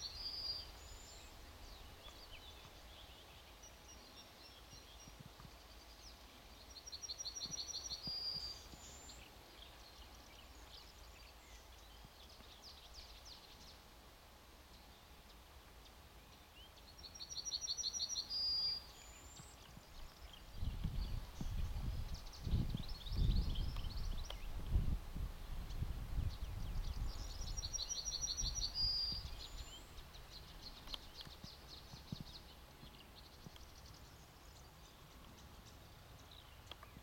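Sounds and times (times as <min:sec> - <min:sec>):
faint bird chirps: 0:00.0 - 0:13.8, 0:15.8 - 0:24.8, 0:25.6 - 0:37.0
songbird singing: 0:00.0 - 0:37.0.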